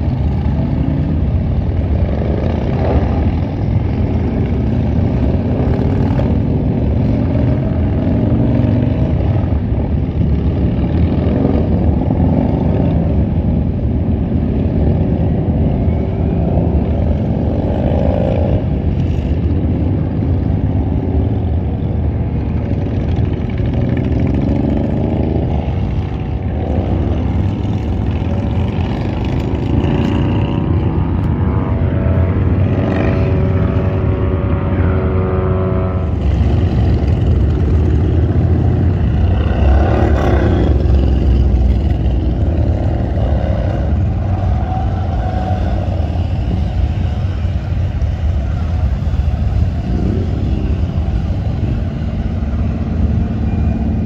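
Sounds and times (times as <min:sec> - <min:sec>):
motorcycles revving past: 0:00.0 - 0:13.4, 0:22.6 - 0:54.0.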